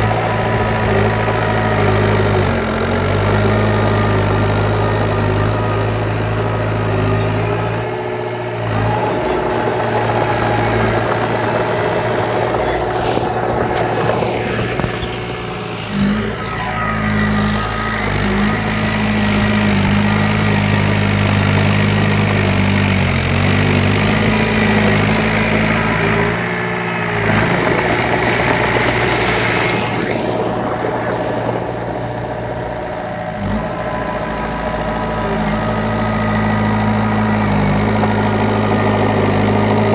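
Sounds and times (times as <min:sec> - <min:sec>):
earthmoving machine diesel engine: 0:00.0 - 0:39.9.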